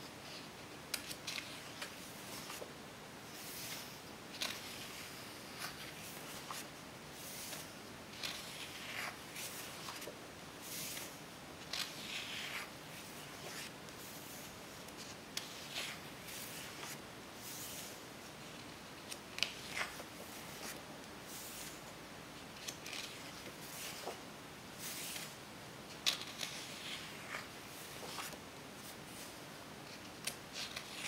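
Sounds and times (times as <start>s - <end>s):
book pages turning: 0.2s - 2.7s, 3.3s - 21.9s, 22.5s - 24.2s, 24.8s - 31.0s.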